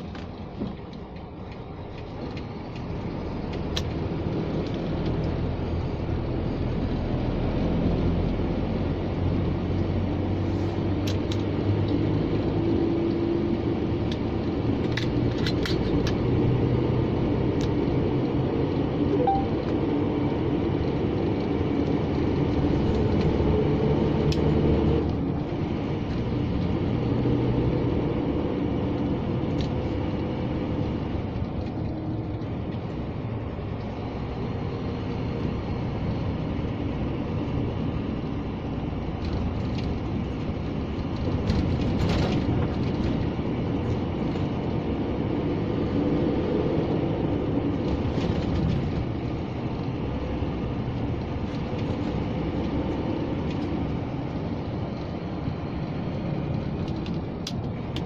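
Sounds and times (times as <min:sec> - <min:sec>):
truck engine and road drone: 0:00.0 - 0:58.0.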